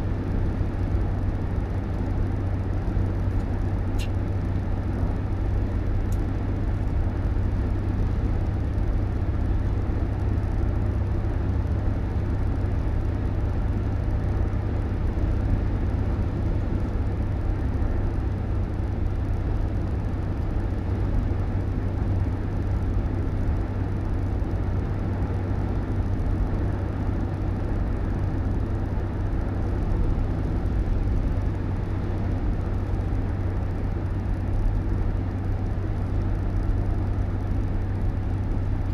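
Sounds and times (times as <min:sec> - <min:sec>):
low rumble of road vehicle: 0:00.0 - 0:38.9.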